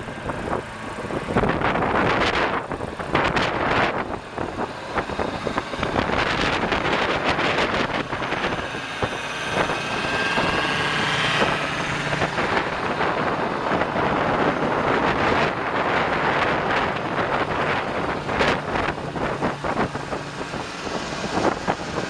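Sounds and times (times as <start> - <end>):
truck diesel engine running: 0.0 - 22.0
wind buffeting microphone: 0.0 - 22.0.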